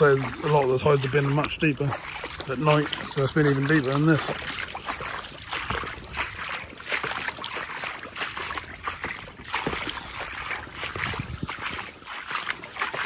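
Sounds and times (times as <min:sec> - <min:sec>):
footsteps wading through water: 0:00.0 - 0:13.0.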